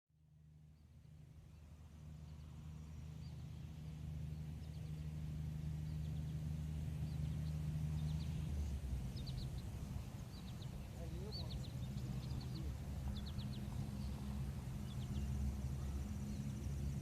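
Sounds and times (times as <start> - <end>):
steady low hum: 0.2 - 17.0
small birds chirping: 0.6 - 17.0.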